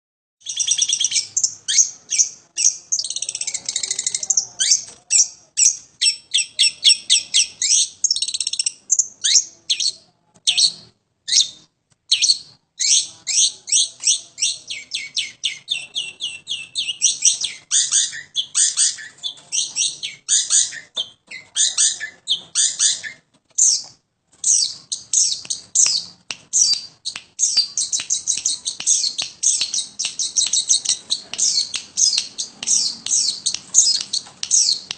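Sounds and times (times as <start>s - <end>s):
bird chattering song: 0.4s - 34.9s.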